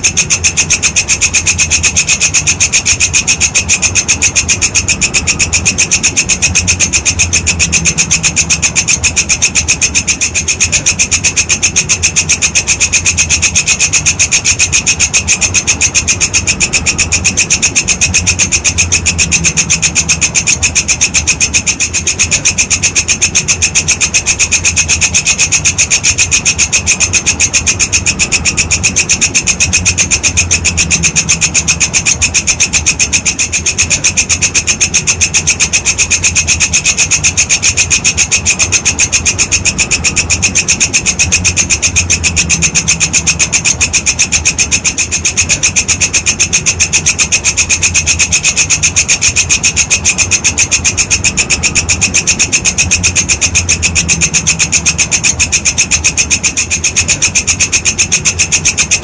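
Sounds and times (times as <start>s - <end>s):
grasshopper stridulating: 0.0s - 59.0s
low hum: 0.0s - 59.0s.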